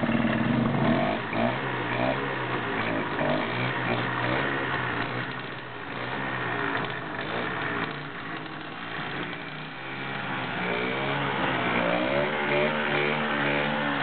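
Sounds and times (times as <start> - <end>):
moped two-stroke engine revving: 0.0 - 14.0.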